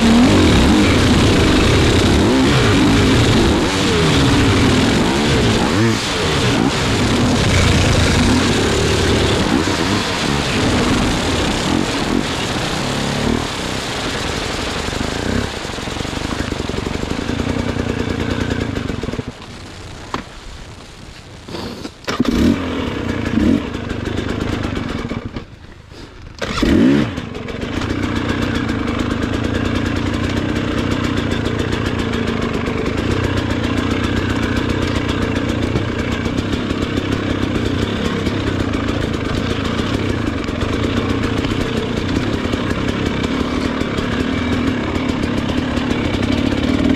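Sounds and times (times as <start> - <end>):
motorcycle engine revving: 0.0 - 19.4, 22.1 - 25.5, 26.4 - 46.9.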